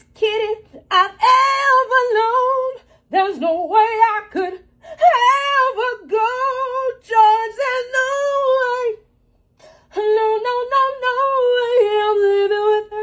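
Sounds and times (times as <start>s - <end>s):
woman singing wordless notes: 0.0s - 9.0s, 10.0s - 13.0s.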